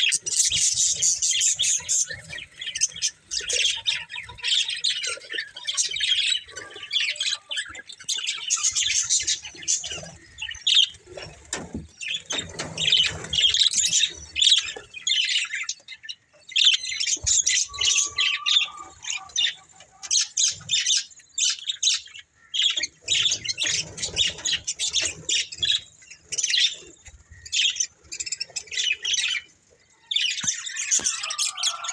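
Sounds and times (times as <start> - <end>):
budgerigars chattering: 0.0 - 10.9, 16.5 - 29.5, 30.1 - 31.9.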